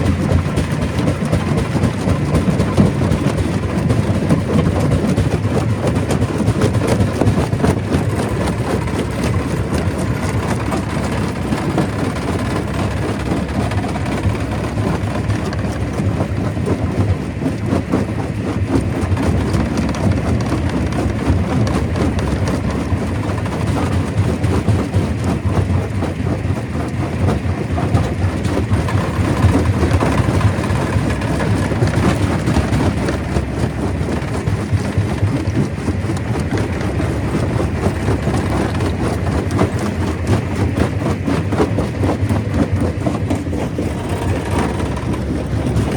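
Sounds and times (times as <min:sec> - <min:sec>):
clatter of rock being crushed: 0:00.0 - 0:45.9
stone crusher rumbling: 0:00.0 - 0:45.9.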